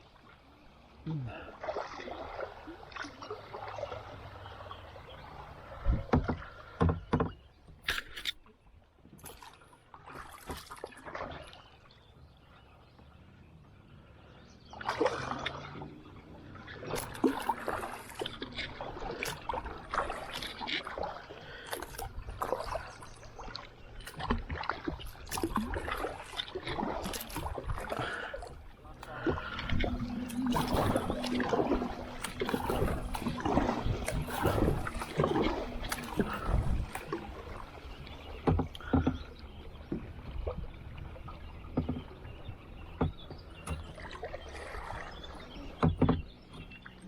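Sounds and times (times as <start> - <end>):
paddles splashing in water: 0.0 - 47.0.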